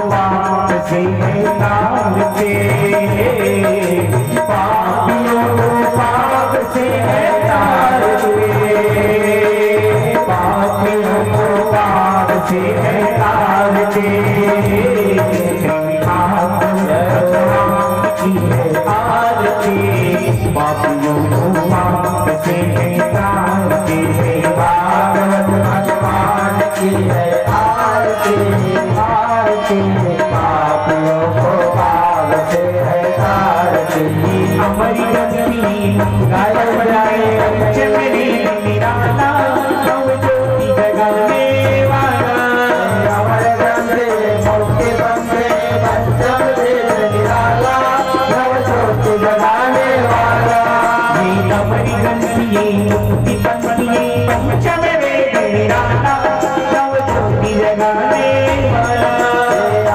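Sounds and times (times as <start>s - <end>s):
tabla rhythm: 0.0s - 59.9s.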